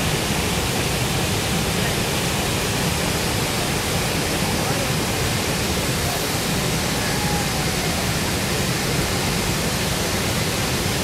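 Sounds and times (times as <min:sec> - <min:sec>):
waterfall crashing: 0:00.0 - 0:11.0.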